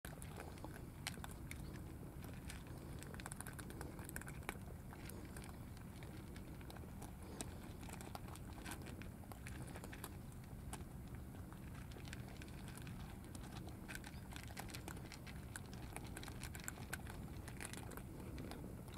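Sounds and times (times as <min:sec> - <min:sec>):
cats crunching food: 0:00.1 - 0:18.9
steady low rumble: 0:00.1 - 0:18.9.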